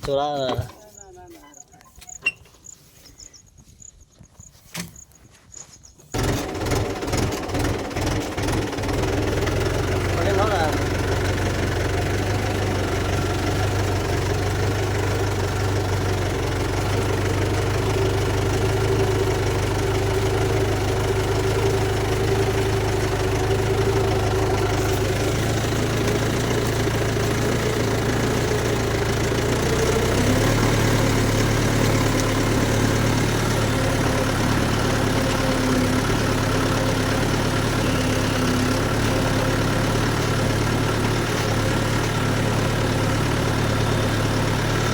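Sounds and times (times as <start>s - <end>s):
tractor engine running: 0.0s - 5.2s, 5.9s - 44.9s.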